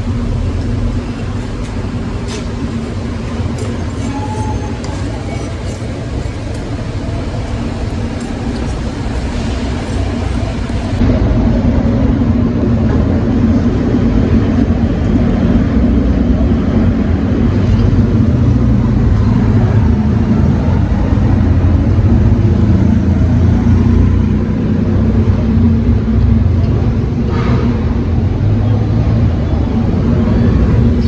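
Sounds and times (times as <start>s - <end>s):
machine rumbling: 0.0s - 31.0s.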